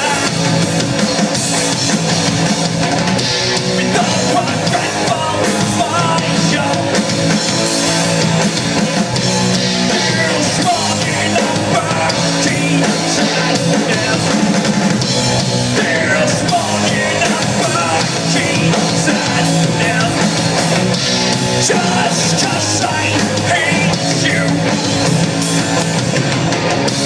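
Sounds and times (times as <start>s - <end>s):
rock band playing live: 0.0s - 27.0s.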